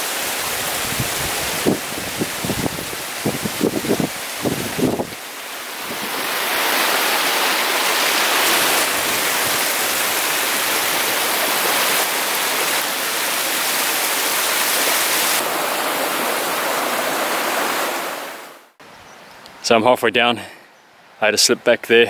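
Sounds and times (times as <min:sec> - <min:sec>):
stream water rushing: 0:00.0 - 0:18.8.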